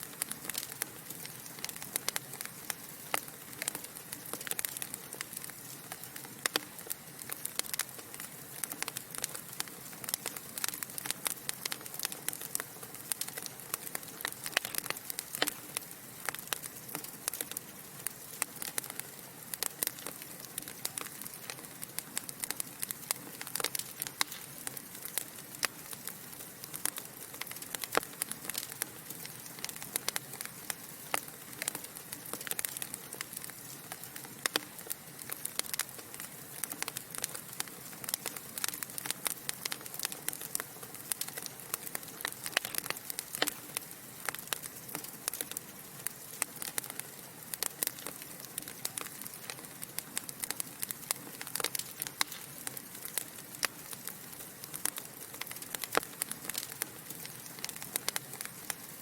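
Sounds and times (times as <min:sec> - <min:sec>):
fire hissing: 0:00.0 - 0:59.0
logs crackling: 0:00.0 - 0:59.0.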